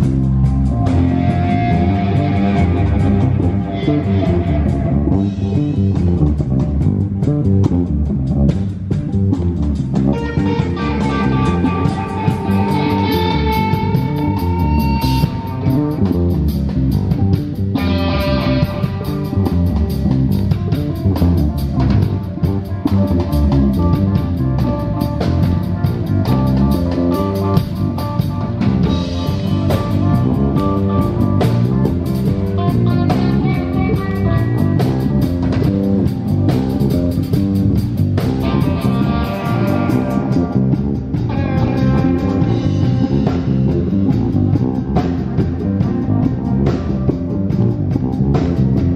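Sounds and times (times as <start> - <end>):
heavy metal band playing: 0.0 - 48.9.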